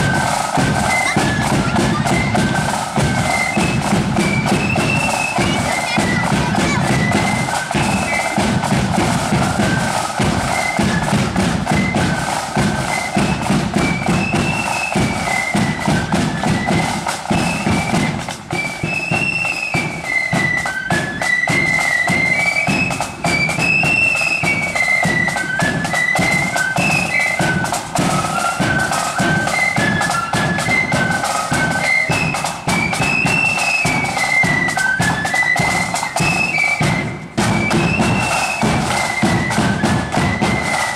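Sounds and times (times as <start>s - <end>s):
flutes playing a melody: 0.0s - 40.9s
snare drum beats: 0.0s - 40.9s.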